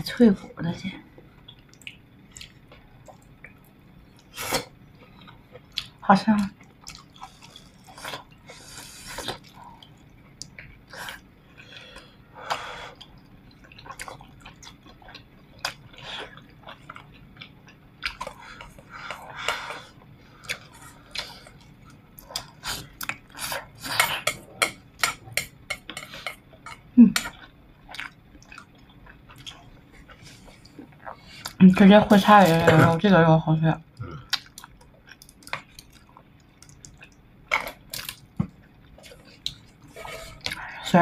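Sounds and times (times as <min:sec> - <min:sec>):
person chewing and smacking: 0:01.4 - 0:04.4, 0:05.0 - 0:06.0, 0:06.6 - 0:31.6, 0:34.0 - 0:40.7.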